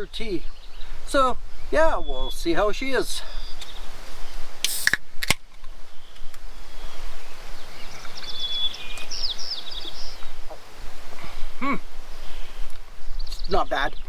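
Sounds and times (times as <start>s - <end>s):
small bird chirping: 0.0s - 4.9s, 5.6s - 14.0s
outdoor background noise: 0.0s - 14.0s.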